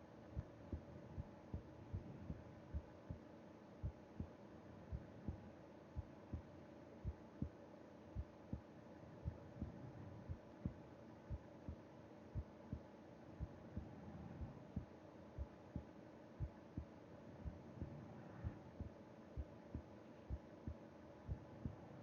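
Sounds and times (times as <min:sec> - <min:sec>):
heart beating: 0:00.4 - 0:03.2, 0:03.8 - 0:07.6, 0:08.2 - 0:11.8, 0:12.4 - 0:22.0.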